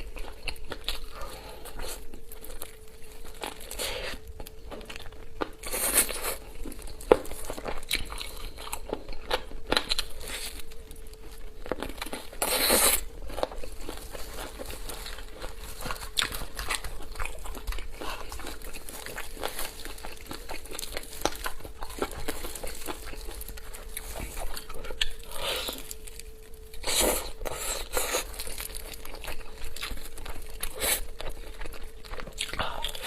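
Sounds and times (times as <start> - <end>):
crinkling: 0.0 - 26.8
crunchy chewing of fried chicken: 0.0 - 33.0.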